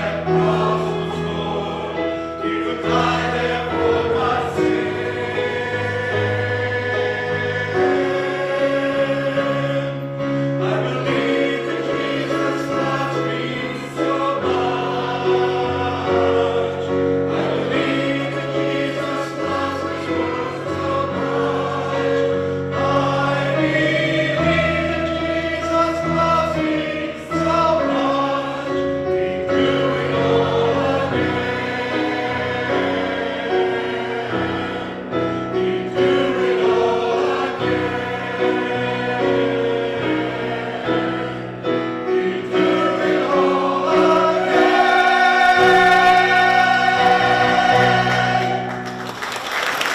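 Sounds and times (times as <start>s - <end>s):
group singing a hymn: 0.0s - 49.9s.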